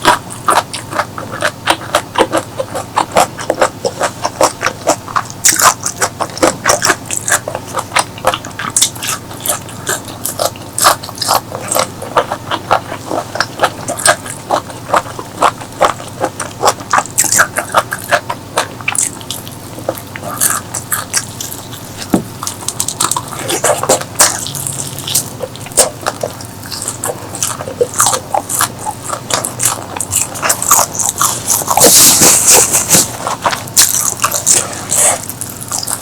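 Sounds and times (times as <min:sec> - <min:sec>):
mouth noises: 0:00.0 - 0:36.0
person chewing crunchy food: 0:00.0 - 0:36.0.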